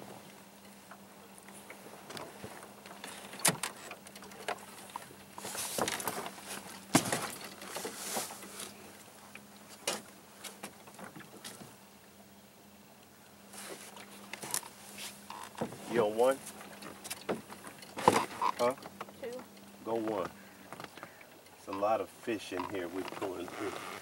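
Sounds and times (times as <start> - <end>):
clicks and clatter on a boat: 0.0 - 11.9, 13.0 - 24.0
faint steady hum: 0.0 - 24.0.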